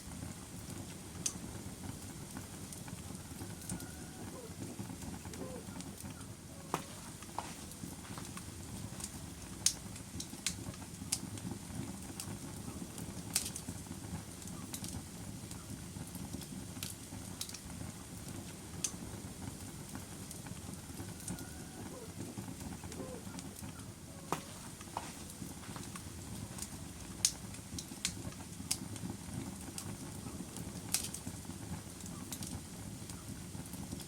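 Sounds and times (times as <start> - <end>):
burning wood crackling and popping: 0.0 - 34.0
low rumble of flame: 0.0 - 34.0.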